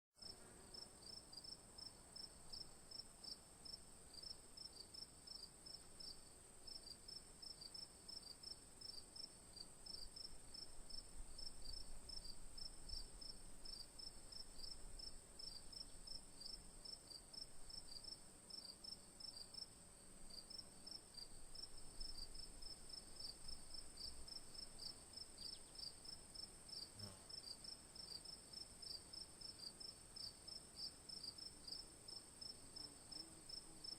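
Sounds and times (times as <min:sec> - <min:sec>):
crickets chirping: 0:00.7 - 0:33.9.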